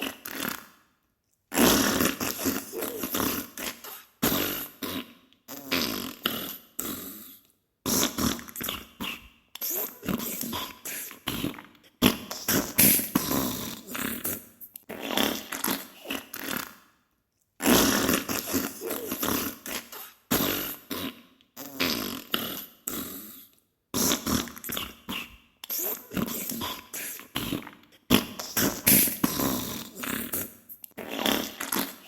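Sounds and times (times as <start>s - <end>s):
sputtering farts: 1.5s - 7.2s, 7.9s - 16.8s, 17.6s - 23.2s, 24.0s - 32.0s.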